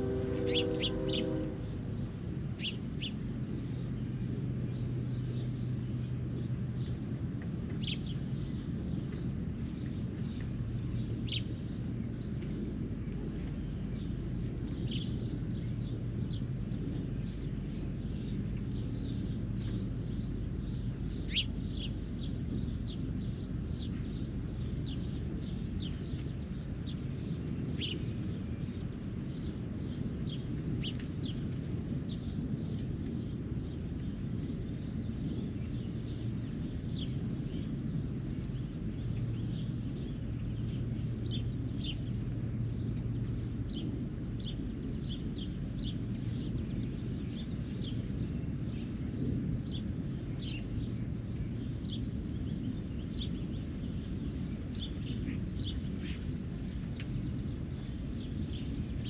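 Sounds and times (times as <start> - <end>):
birds chirping: 0.0 - 59.0
low background rumble: 0.0 - 59.0.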